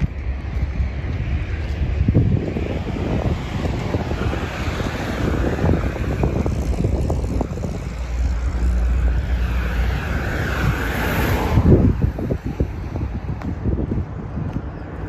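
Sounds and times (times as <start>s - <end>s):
van driving past: 0.0s - 15.0s
wind buffeting microphone: 0.0s - 15.0s.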